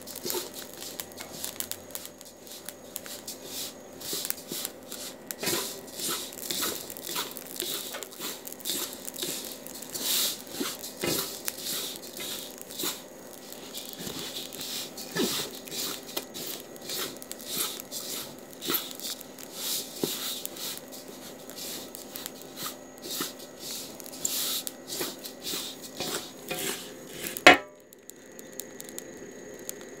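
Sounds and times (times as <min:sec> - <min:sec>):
seeds rustling and crackling in pan: 0:00.0 - 0:30.0.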